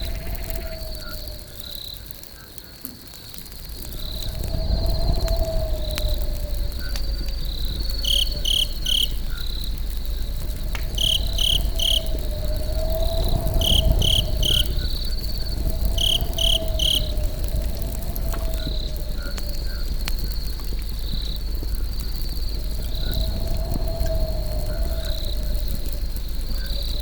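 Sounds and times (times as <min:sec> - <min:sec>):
campfire crackling and popping: 0:00.0 - 0:27.0
crickets trilling: 0:00.0 - 0:27.0.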